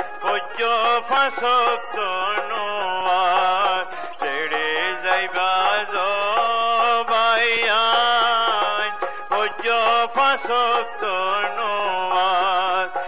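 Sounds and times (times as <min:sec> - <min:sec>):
ornamented melody: 0:00.0 - 0:13.0.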